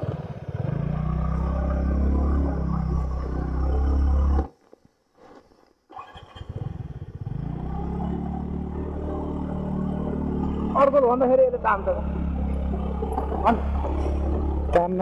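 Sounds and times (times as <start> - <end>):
scooter engine running: 0.0 - 4.5, 5.9 - 15.0.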